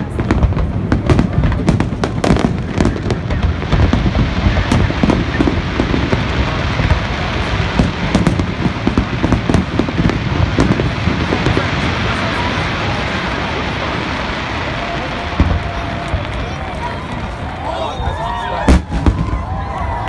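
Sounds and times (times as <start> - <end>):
firework booms: 0.0 - 17.6, 18.4 - 20.0
firework cracks and crackles: 0.0 - 20.0.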